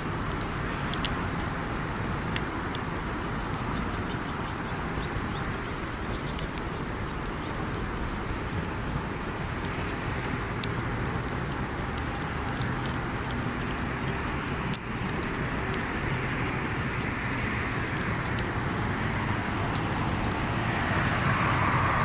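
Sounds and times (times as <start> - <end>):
campfire crackling: 0.0 - 22.0
steady fire hiss: 0.0 - 22.0.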